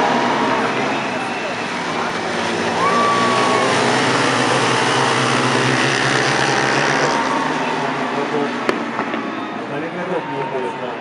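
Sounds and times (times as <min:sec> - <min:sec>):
motorcycle engines buzzing at high revs: 0:00.0 - 0:09.4.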